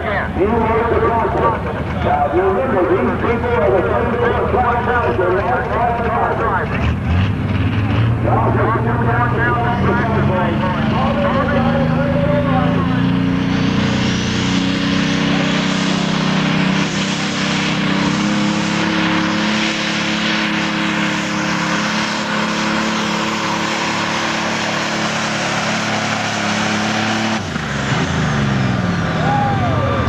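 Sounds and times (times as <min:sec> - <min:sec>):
diesel engine at full throttle: 0:00.0 - 0:30.0.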